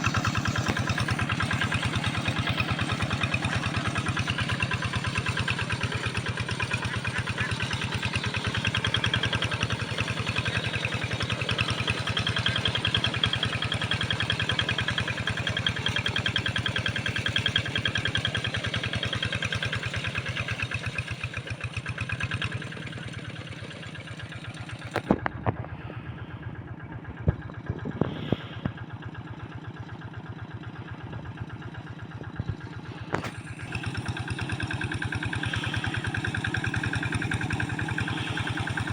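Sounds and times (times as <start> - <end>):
hand tractor engine chugging: 0.0 - 38.9.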